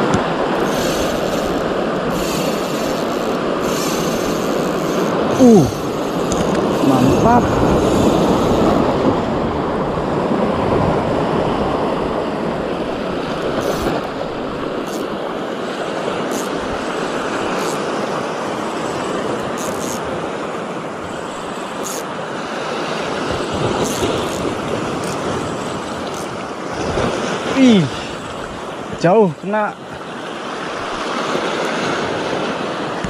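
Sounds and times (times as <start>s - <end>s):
small waves washing ashore: 0.0s - 33.0s.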